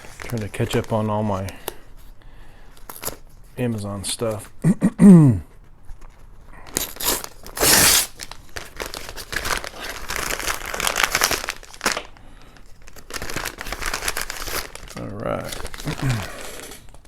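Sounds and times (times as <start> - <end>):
packaging crinkling and tearing: 0.0 - 2.1, 2.7 - 3.5, 5.8 - 17.0.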